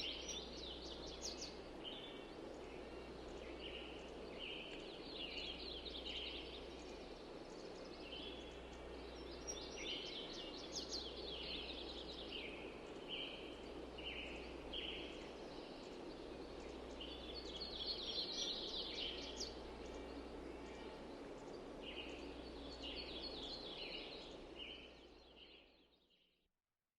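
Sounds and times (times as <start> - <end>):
steady low hum: 0.0 - 25.5
small birds chirping: 0.0 - 25.8
outdoor background noise: 0.0 - 26.0.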